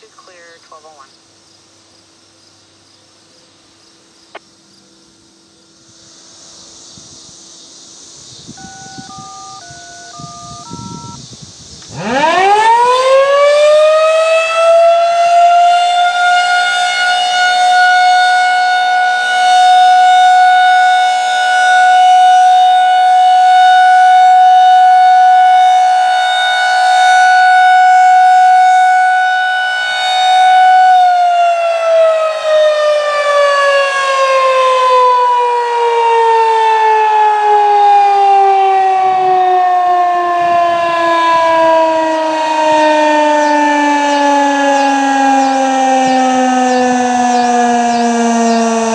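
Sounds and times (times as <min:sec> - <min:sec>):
rotating siren wailing: 0:08.5 - 0:11.2, 0:11.9 - 0:48.9.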